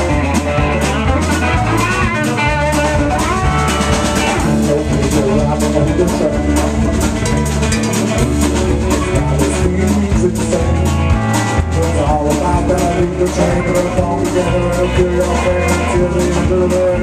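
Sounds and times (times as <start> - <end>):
bass notes: 0.0 - 17.0
drum kit steady beat: 0.0 - 17.0
electric guitar: 0.0 - 17.0.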